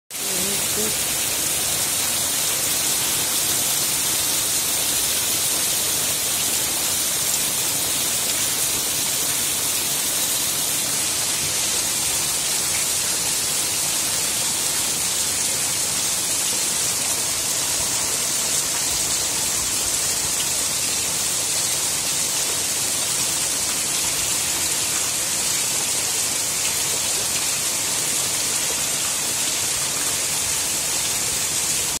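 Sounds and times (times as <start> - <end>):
heavy rain on pavement: 0.1 - 32.0.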